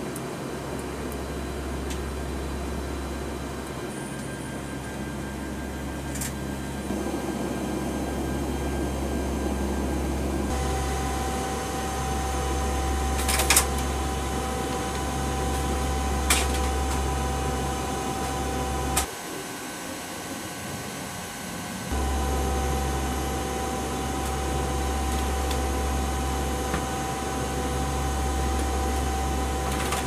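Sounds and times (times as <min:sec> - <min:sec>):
aircraft cabin drone: 0:00.0 - 0:30.0.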